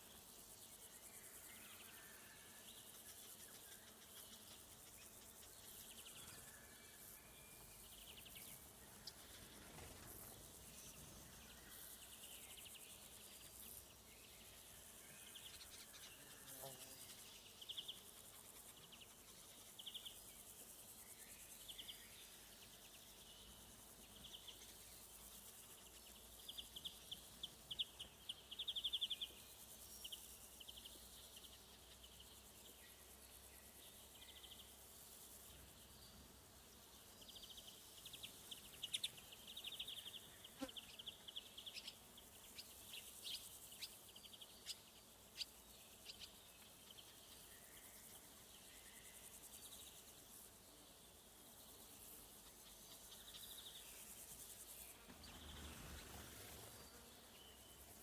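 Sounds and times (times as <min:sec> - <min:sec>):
crickets chirping: 0:00.0 - 0:58.0
high insect hiss: 0:00.0 - 0:58.0.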